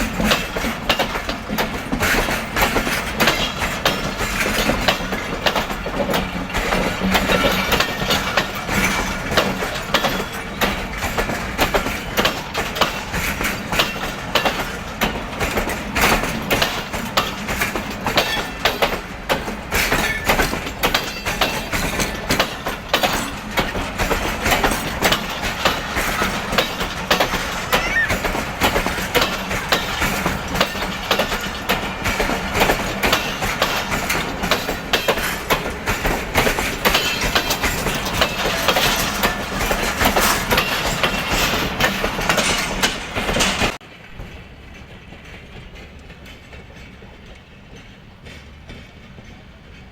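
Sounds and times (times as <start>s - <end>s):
train wheels clattering over rail joints: 0.0s - 49.9s.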